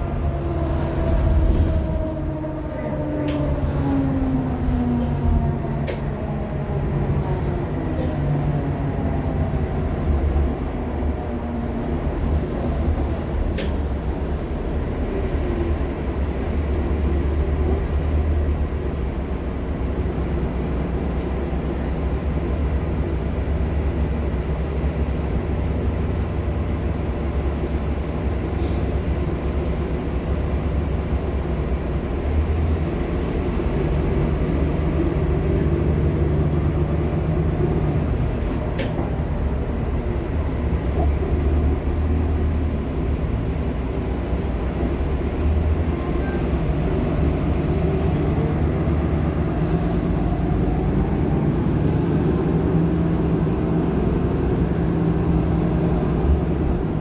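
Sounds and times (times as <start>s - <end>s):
bus engine and road rumble: 0.0s - 57.0s
hybrid bus drive whine: 0.0s - 57.0s.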